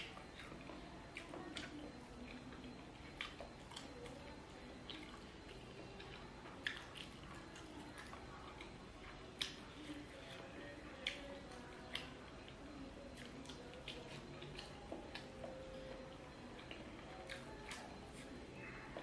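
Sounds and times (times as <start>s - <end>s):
mouth clicks and smacks chewing: 0.0s - 19.0s.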